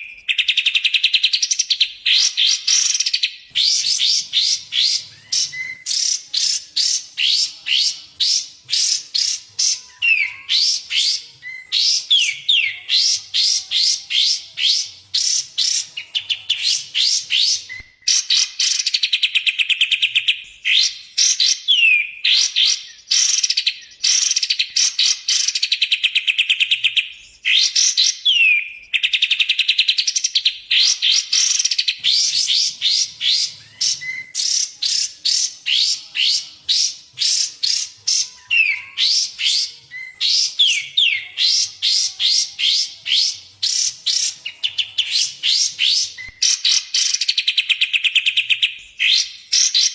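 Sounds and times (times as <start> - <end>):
songbird chirps and trills: 0.0 - 49.9.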